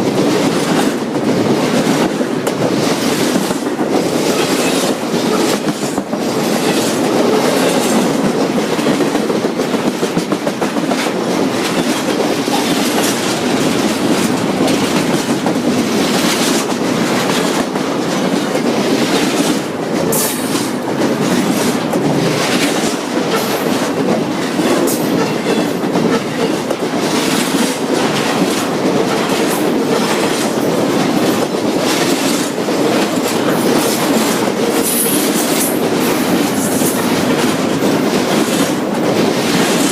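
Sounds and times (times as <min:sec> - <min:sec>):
freight train cars rolling past: 0:00.0 - 0:39.9
wheels clacking over rail joints: 0:00.0 - 0:39.9.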